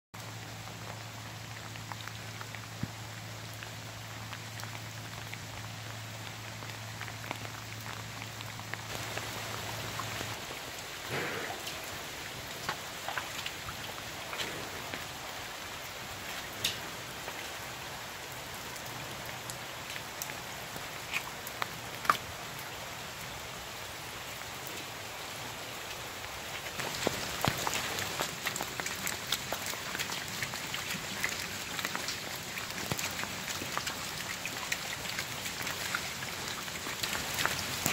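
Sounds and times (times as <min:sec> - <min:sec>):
heavy rain falling: 0:00.2 - 0:37.9.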